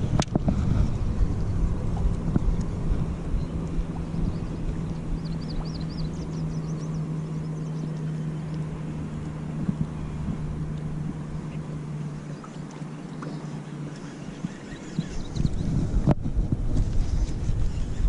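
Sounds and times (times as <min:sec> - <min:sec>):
electric trolling motor humming: 0:00.0 - 0:18.0
wind rumble on microphone: 0:00.0 - 0:18.0.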